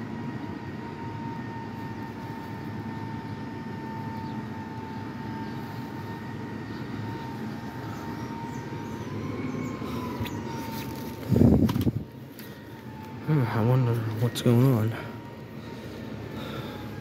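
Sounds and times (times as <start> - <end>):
thin steady whine: 0.0 - 17.0.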